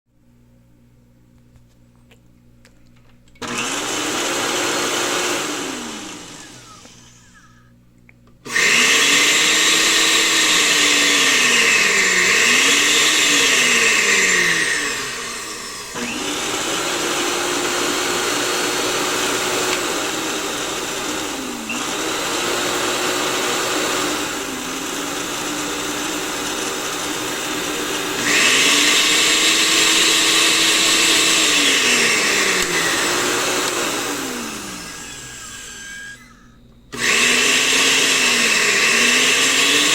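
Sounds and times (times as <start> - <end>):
blender motor running: 3.4 - 7.7, 8.5 - 39.9.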